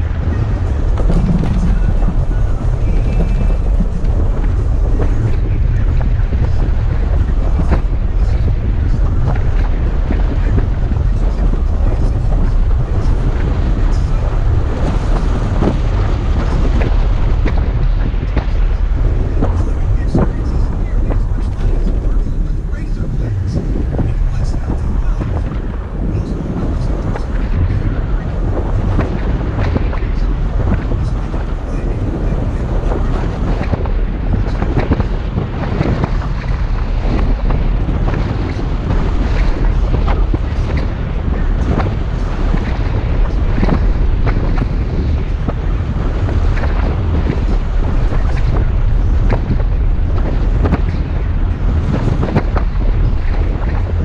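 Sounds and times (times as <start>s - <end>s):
engine rumbling under load: 0.0s - 54.0s
wind noise on microphone: 0.0s - 54.0s.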